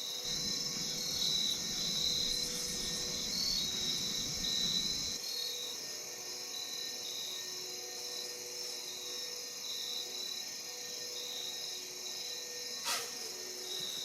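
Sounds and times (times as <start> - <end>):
insects chirring: 0.1 - 14.0.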